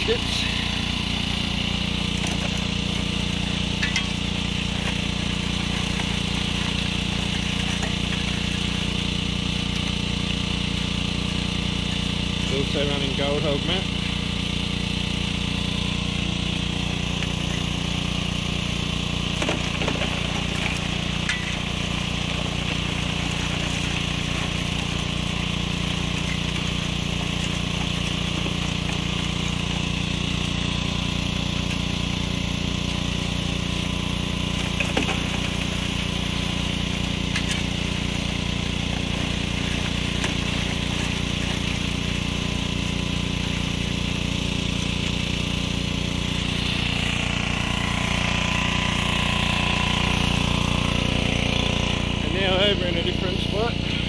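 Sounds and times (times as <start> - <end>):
small engine running steadily: 0.0 - 54.0.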